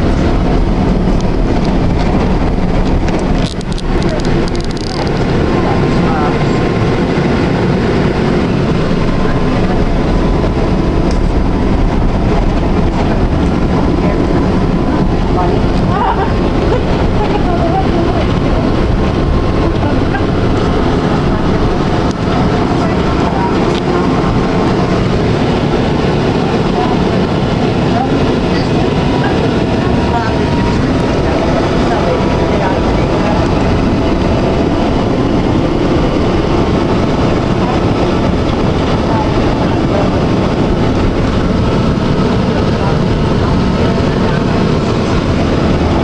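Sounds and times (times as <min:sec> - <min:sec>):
tram wheels rumbling on rails: 0:00.0 - 0:46.0.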